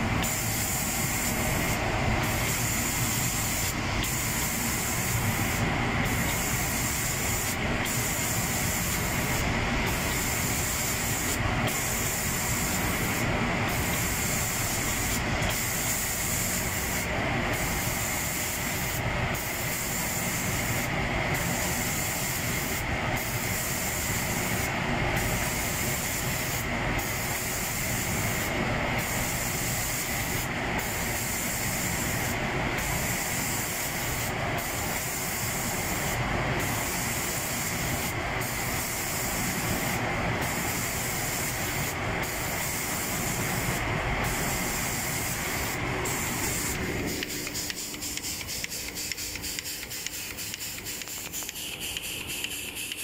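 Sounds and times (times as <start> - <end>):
paint spray hiss: 0.0 - 53.0.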